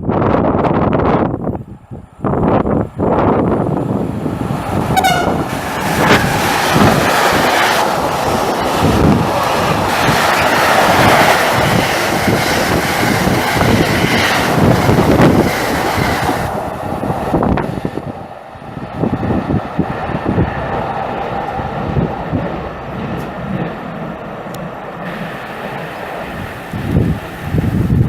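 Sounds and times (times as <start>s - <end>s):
train passing at speed: 0.0s - 28.0s
wind gusts on microphone: 0.0s - 28.0s.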